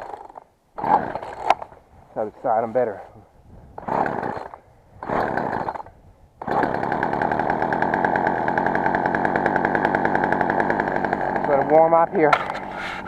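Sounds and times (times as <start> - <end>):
chainsaw engine idling fast: 0.0 - 1.6, 3.8 - 12.7
chainsaw starting bursts: 0.0 - 1.7, 3.8 - 12.7.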